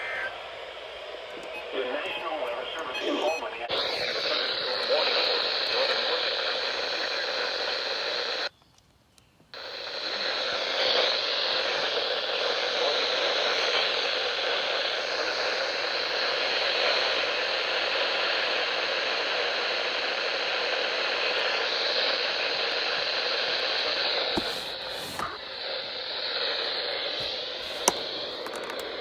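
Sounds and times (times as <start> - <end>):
radio static hiss: 0.0 - 8.5, 9.6 - 29.0.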